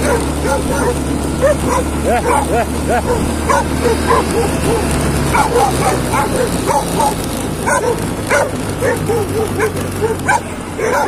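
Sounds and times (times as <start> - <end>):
dogs barking and yelping: 0.0 - 11.0
motorcycle engine hum: 0.0 - 11.0.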